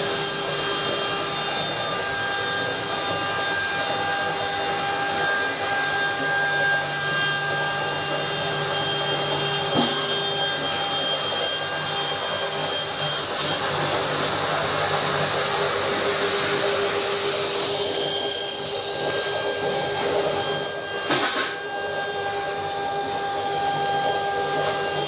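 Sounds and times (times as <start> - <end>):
cnc machine motor whine: 0.0 - 25.0.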